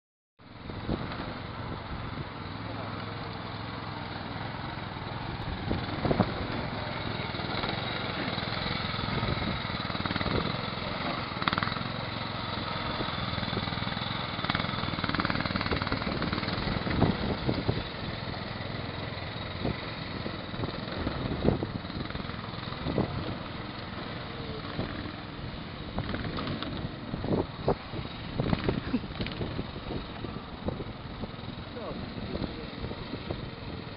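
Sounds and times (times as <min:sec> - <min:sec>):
small engine running: 0:00.5 - 0:33.9.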